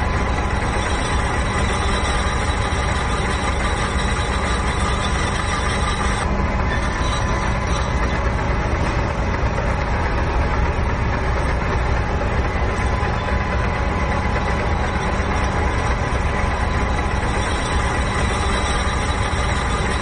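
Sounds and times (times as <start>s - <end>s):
faint steady whines: 0.0s - 20.0s
lathe running: 0.0s - 20.0s.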